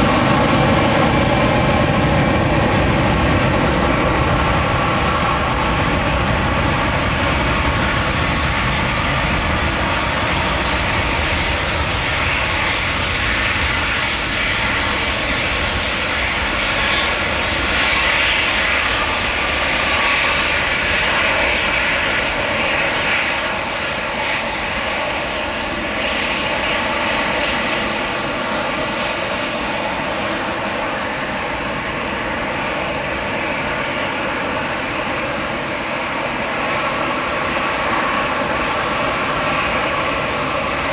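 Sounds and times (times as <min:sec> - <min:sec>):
jet engines roaring and whining: 0:00.0 - 0:40.9.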